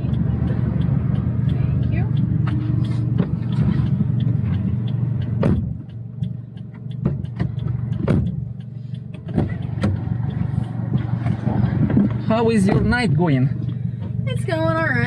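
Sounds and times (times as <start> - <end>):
sharp knocks and clicks: 0.0 - 14.2
car engine low rumble: 0.0 - 15.0.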